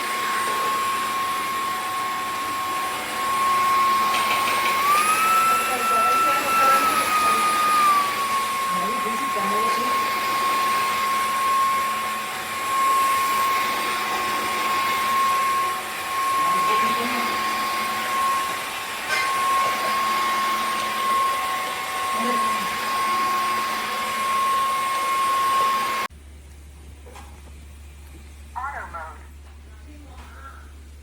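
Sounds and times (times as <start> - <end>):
vacuum mop motor whine: 0.0 - 26.1.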